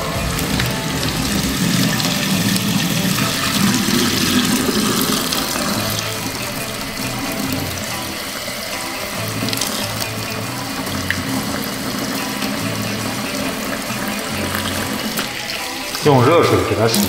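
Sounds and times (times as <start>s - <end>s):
background music with bass: 0.0s - 17.0s.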